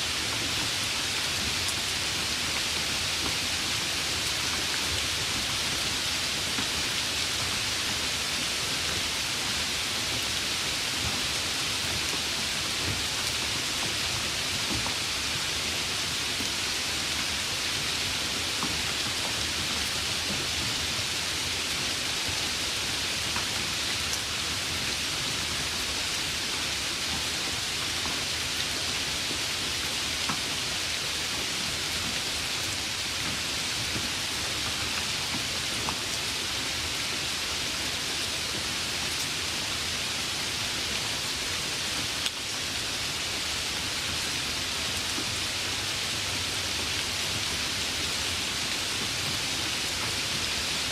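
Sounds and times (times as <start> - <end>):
light rain hissing: 0.0 - 50.9.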